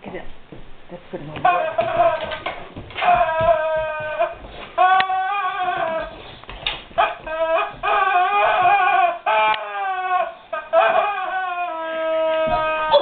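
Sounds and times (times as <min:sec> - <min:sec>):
dog whining: 0:01.4 - 0:13.0.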